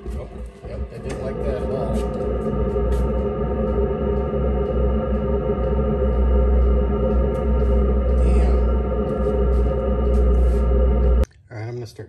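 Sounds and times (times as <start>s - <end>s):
blower hum: 0.0s - 11.3s
heater combustion rumble: 0.0s - 12.0s.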